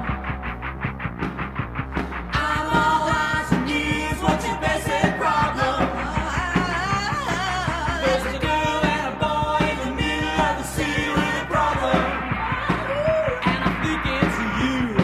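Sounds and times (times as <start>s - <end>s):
rock band playing: 0.0s - 15.0s
person singing: 2.4s - 15.0s.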